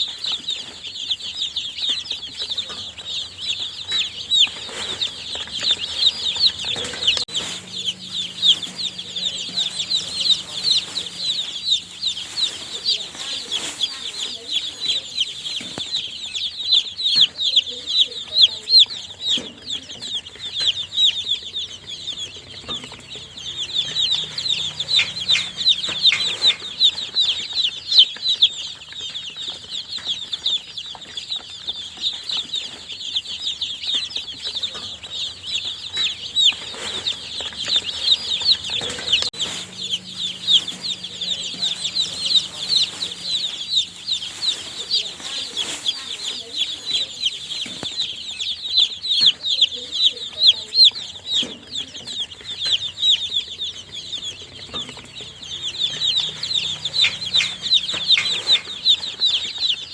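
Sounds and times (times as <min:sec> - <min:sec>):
baby chicks peeping: 0:00.0 - 0:59.9.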